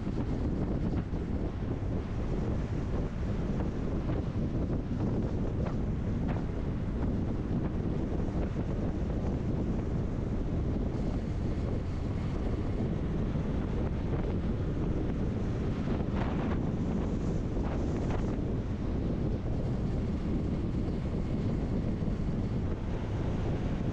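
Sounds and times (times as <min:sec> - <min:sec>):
road and wind rumble inside vehicle: 0:00.0 - 0:23.9.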